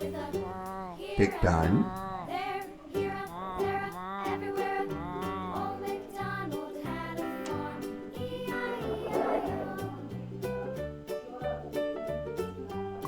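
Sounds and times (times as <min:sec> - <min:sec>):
children's music with singing: 0:00.0 - 0:13.0.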